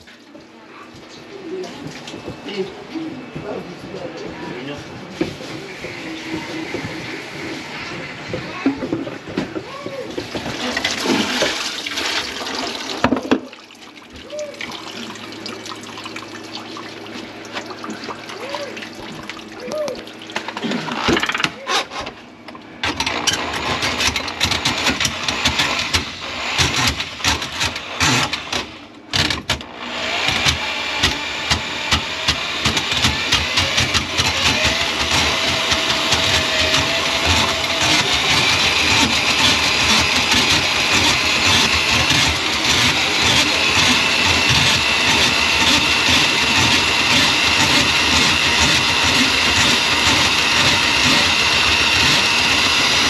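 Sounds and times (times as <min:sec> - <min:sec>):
drain auger motor whining: 0:05.4 - 0:13.4, 0:16.6 - 0:53.0.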